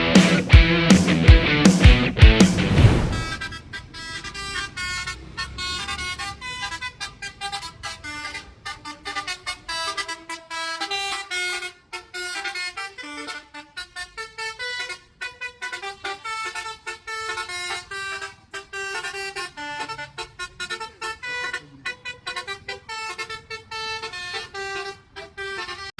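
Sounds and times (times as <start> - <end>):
bus horn playing a fast tune: 3.2 - 25.9.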